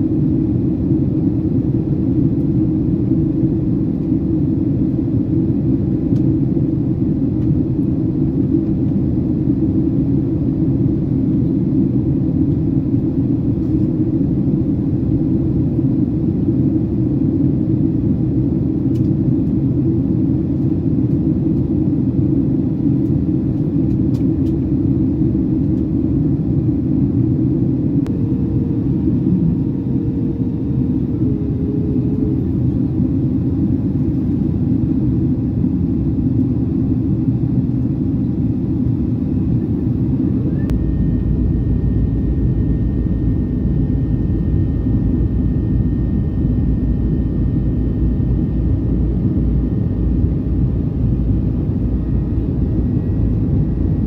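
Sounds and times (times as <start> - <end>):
airplane cabin engine drone: 0.0 - 54.0
faint steady hum: 0.0 - 54.0.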